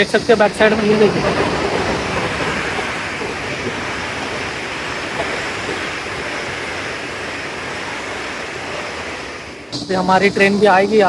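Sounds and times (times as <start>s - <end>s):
high-speed train rushing past: 0.0s - 11.0s.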